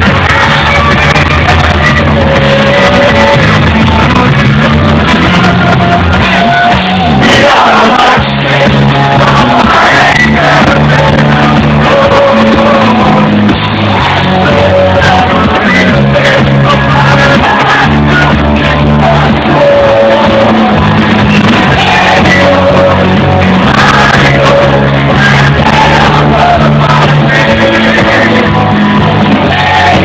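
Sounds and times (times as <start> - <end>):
bass guitar: 0.0 - 30.0
drums: 0.0 - 30.0
lead singer singing: 0.0 - 30.0
live rock band playing: 0.0 - 30.0
audience shouting: 5.1 - 30.0.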